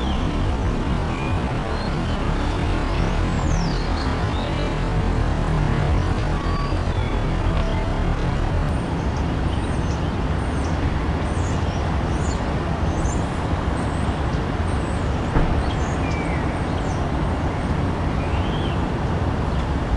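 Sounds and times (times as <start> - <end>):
city traffic rumble: 0.0 - 19.9.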